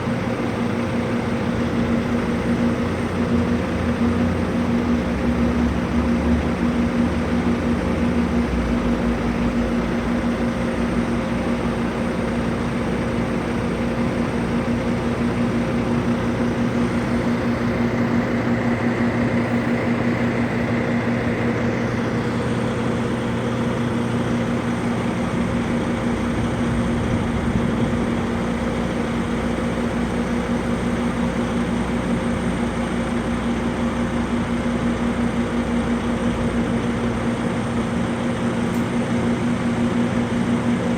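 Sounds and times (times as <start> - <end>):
vehicle engine and road noise: 2.7 - 40.0.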